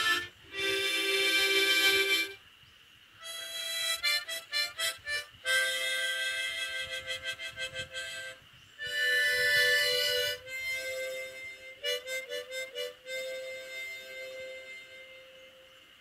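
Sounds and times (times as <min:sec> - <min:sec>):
harmonica music: 0:00.0 - 0:02.4, 0:03.2 - 0:15.8.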